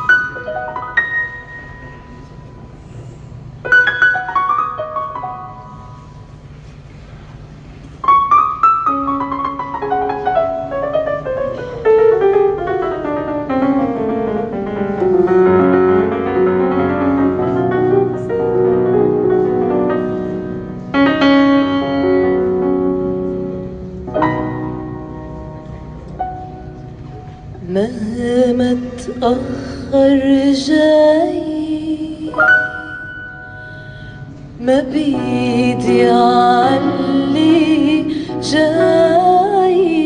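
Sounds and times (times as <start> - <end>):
piano hymn introduction: 0.0 - 40.0.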